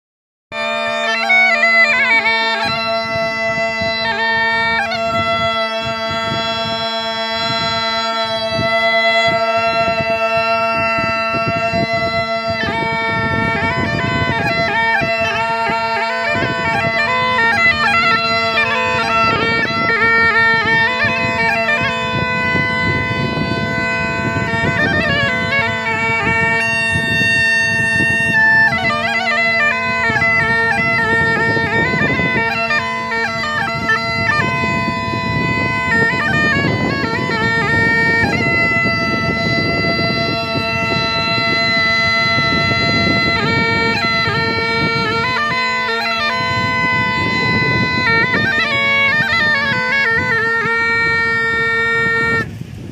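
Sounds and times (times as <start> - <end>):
bagpipe melody over drone: 0.5 - 52.9.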